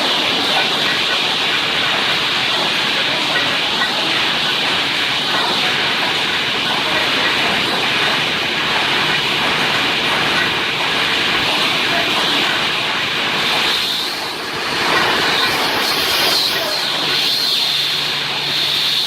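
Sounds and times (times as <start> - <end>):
welding machine clatter and hiss: 0.0 - 19.0.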